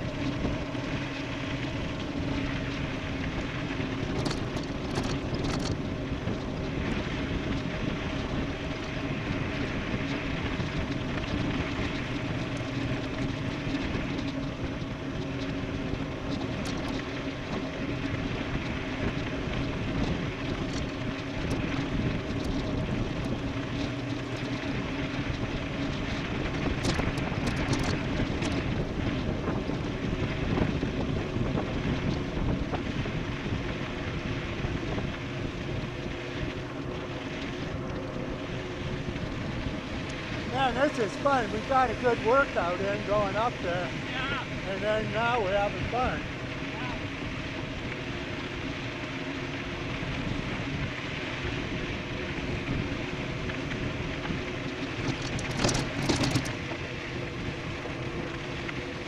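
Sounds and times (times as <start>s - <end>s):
bike rattles: 0.0s - 59.0s
tyre and drivetrain hum: 0.0s - 59.0s
wind rush on microphone: 0.0s - 59.0s.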